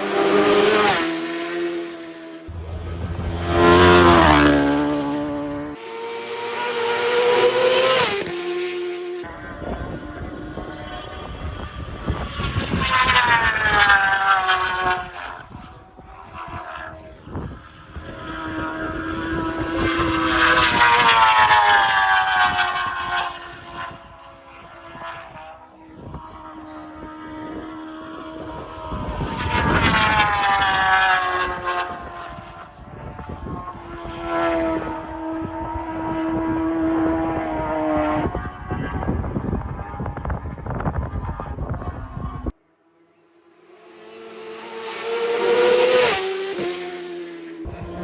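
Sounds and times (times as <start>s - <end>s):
racing motorcycles passing: 0.0s - 48.0s.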